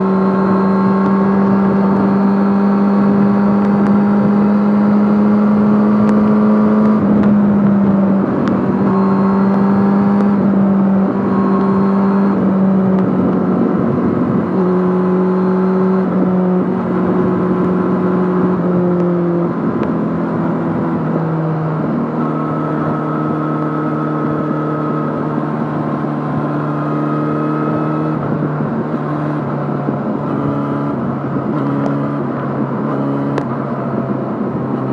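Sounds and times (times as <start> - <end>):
motorcycle engine while riding: 0.0 - 34.9.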